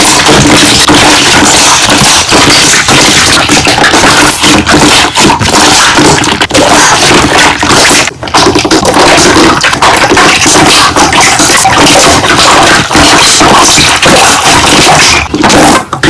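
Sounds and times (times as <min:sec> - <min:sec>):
slime bubbles popping: 0:00.0 - 0:16.0.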